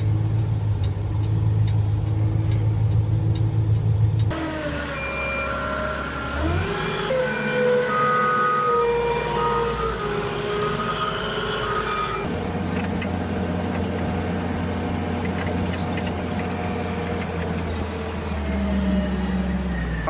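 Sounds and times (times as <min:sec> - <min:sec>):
heavy truck engine running: 0:00.0 - 0:20.0
whining tone: 0:00.0 - 0:20.0.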